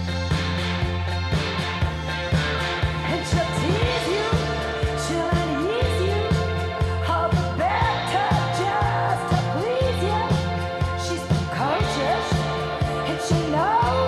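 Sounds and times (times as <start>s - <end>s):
deep bass: 0.0s - 14.0s
song with drum beat: 0.0s - 14.0s.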